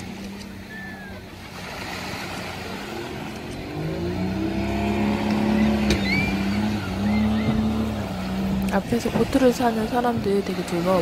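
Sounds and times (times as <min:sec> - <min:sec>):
outboard boat engine: 0:00.0 - 0:11.0
small waves washing onto beach: 0:00.0 - 0:11.0.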